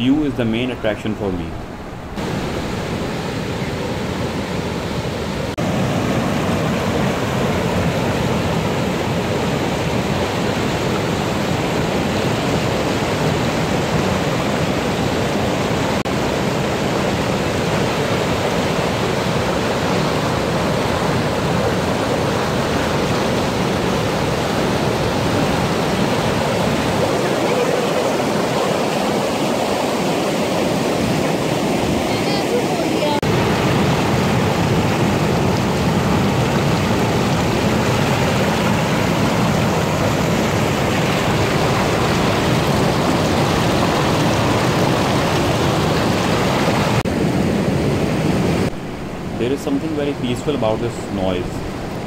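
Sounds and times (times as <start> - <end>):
water rushing over a weir: 0.0 - 52.0.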